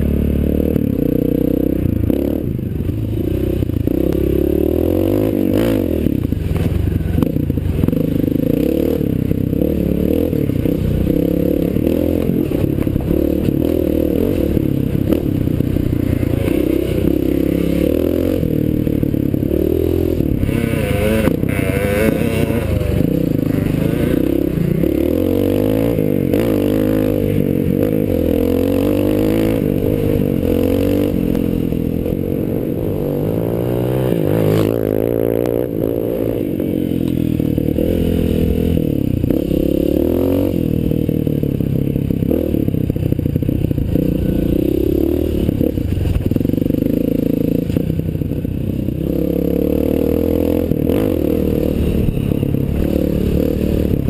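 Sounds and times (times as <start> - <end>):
motorcycle engine revving: 0.0 - 54.0
motorcycle rattling and scraping: 0.0 - 54.0.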